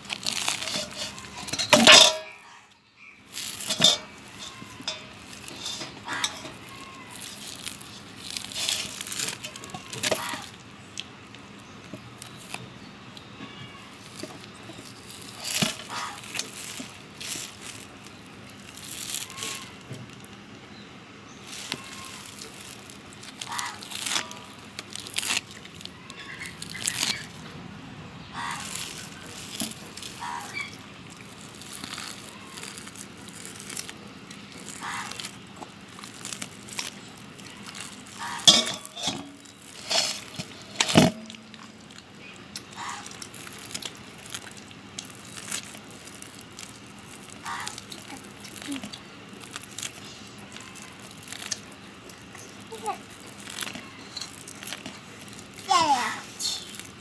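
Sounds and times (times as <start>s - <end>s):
wet squelching of kneaded pulp: 0.0s - 57.0s.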